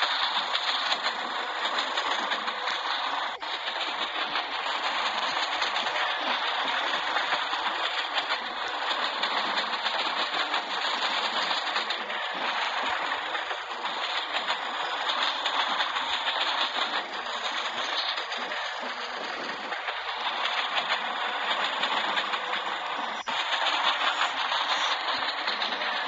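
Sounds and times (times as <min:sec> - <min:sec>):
train wheels rattling: 0:00.0 - 0:26.0.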